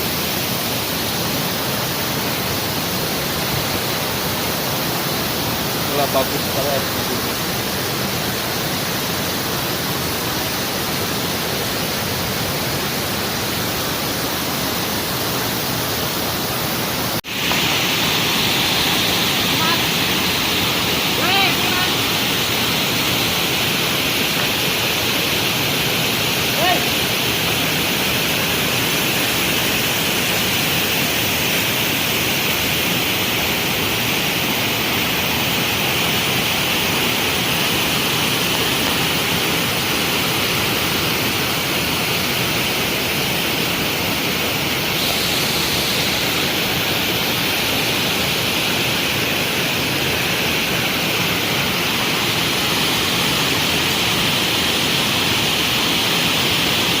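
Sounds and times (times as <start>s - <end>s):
waterfall crashing: 0.0s - 57.0s.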